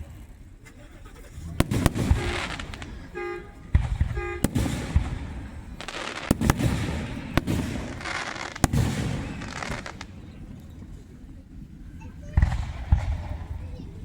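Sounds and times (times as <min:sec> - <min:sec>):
fireworks bangs: 0:01.0 - 0:14.0.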